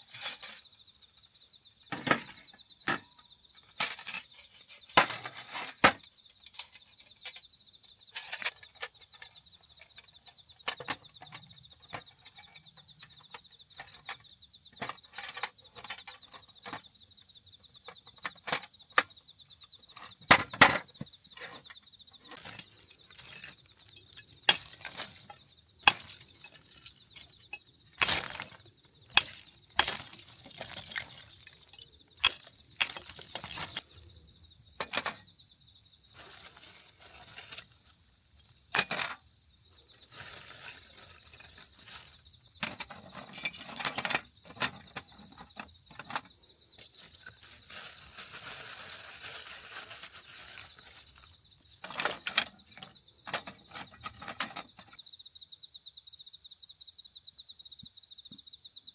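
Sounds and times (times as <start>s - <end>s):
insects chirping: 0.0s - 58.9s.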